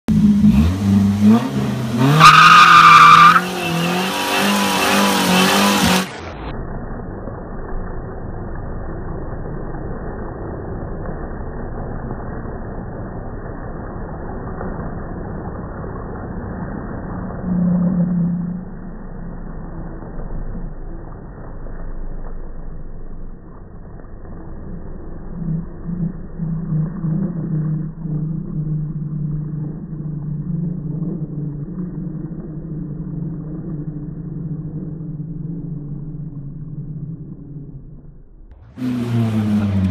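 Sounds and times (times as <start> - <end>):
low hum: 0.0 - 39.9
muffled low engine rumble: 6.2 - 39.9.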